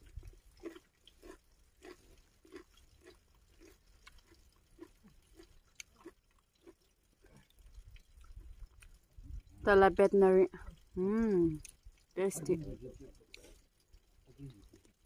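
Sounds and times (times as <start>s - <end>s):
close-up chewing: 0.0s - 9.6s, 10.5s - 12.2s, 13.0s - 15.0s.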